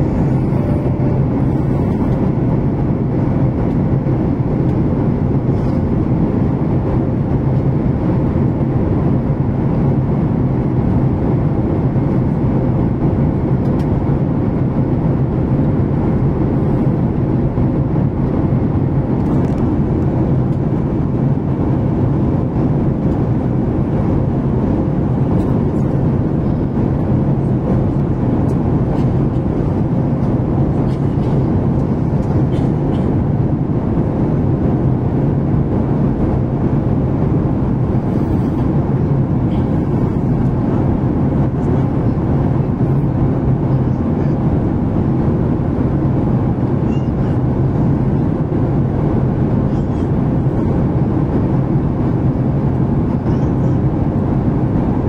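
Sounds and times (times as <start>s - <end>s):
jet cabin drone: 0.0s - 55.0s.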